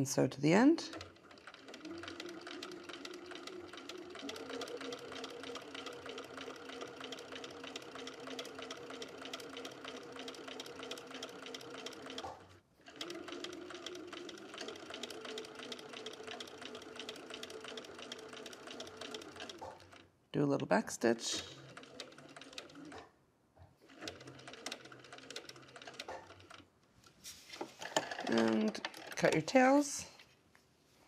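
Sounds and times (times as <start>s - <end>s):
sewing machine stitching: 0.6s - 20.1s, 21.2s - 23.1s, 23.8s - 26.6s, 27.8s - 29.7s.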